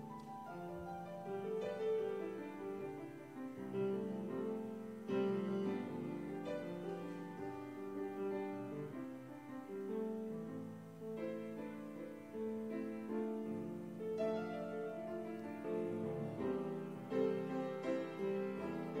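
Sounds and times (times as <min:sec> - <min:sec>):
slow solo piano chords: 0:00.0 - 0:19.0.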